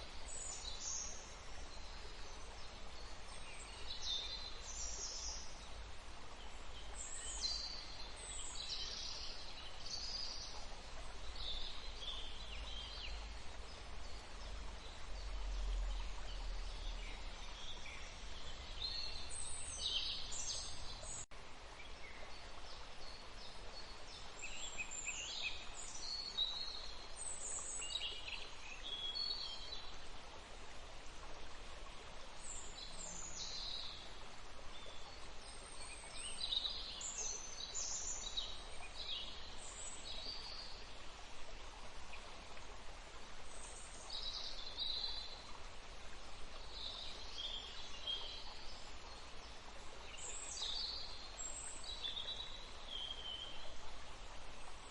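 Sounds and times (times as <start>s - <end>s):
stream water flowing: 0.0s - 54.9s.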